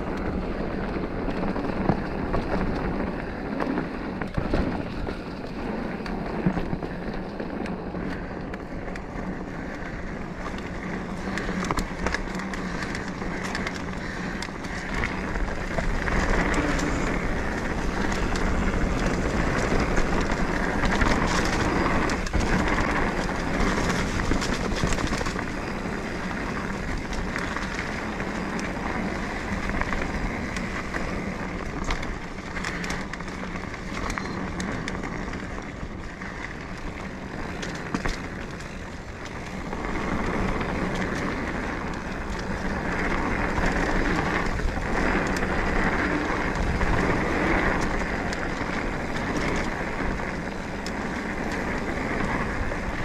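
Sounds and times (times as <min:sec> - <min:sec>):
bike clicks and rattles: 0:00.0 - 0:53.0
bike tyre and wind noise: 0:00.0 - 0:53.0.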